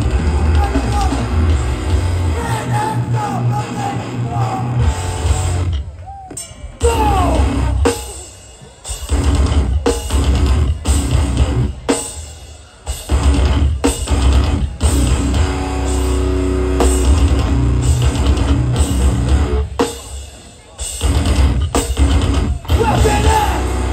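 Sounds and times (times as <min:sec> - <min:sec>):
punk band playing live: 0:00.0 - 0:23.9.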